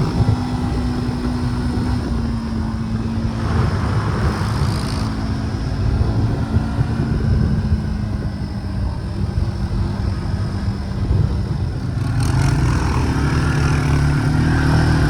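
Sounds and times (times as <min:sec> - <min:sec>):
four-wheeler engine idling: 0:00.0 - 0:15.0
wind rumbling on microphone: 0:00.0 - 0:15.0.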